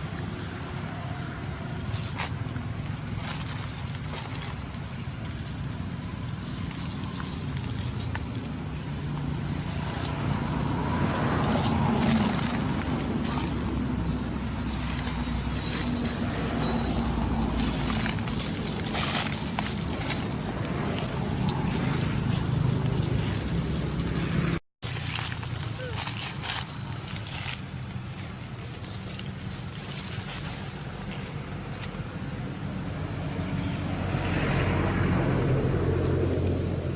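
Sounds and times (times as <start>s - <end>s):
low engine rumble: 0.0s - 36.9s.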